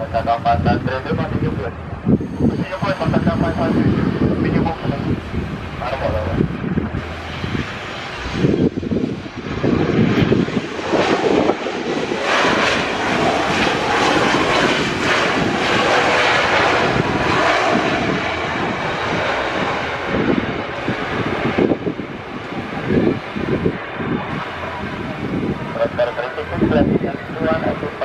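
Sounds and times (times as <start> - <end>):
airliner engines passing: 0.0 - 28.0
wind buffeting microphone: 0.0 - 28.0.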